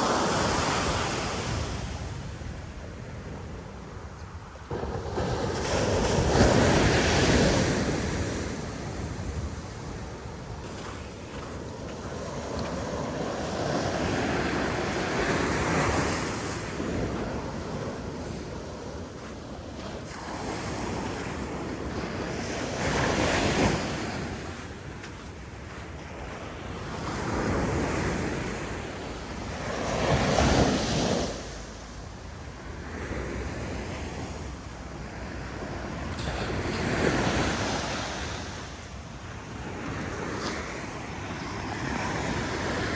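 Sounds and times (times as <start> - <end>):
wind buffeting microphone: 1.3 - 42.9
ocean wave breaking on beach: 4.7 - 24.5, 27.2 - 42.9.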